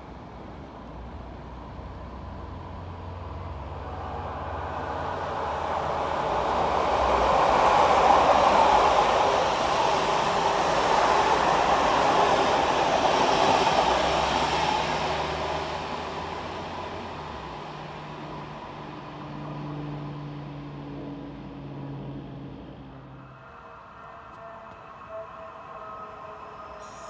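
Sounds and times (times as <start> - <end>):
train wheel and rail noise: 0.0 - 21.2, 22.6 - 27.0.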